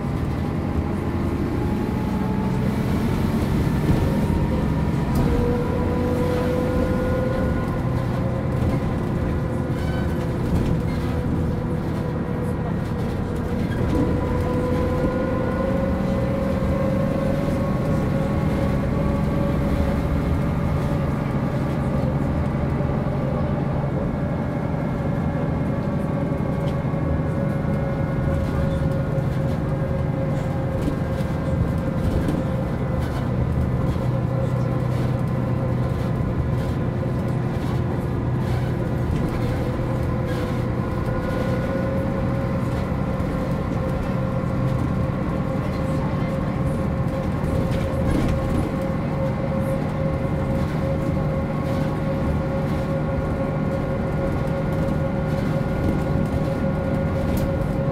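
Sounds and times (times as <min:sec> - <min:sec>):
bus engine whine: 0:00.0 - 0:57.9.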